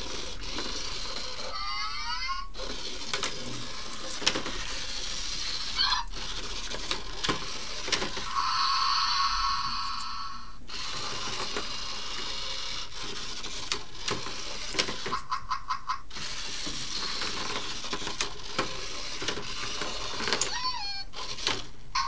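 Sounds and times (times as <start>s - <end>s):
toy motor whirring: 0.0s - 22.0s.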